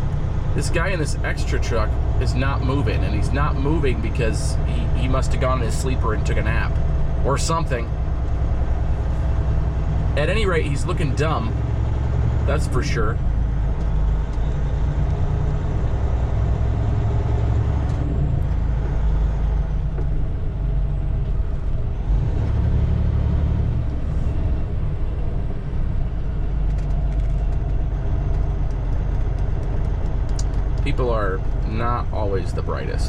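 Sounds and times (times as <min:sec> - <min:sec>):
truck diesel engine droning: 0:00.0 - 0:33.0.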